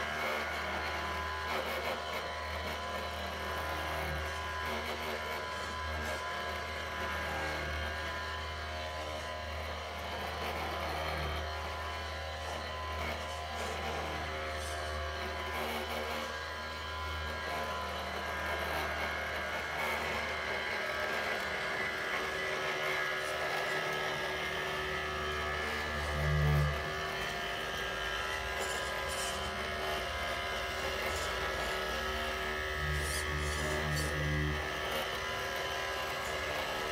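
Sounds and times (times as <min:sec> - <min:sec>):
small electric motors whining: 0:00.0 - 0:36.9
vibration motor buzz: 0:00.0 - 0:36.9.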